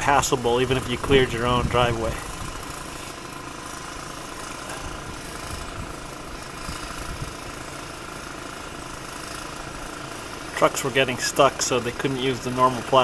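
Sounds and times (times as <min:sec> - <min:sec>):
diesel engine running rough: 0:00.0 - 0:13.0.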